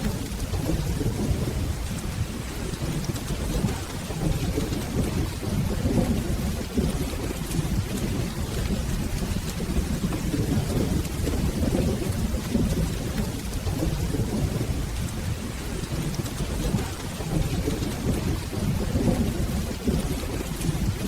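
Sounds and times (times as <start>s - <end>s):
rolling thunder rumble: 0.0s - 21.0s
steady rain: 0.0s - 21.0s.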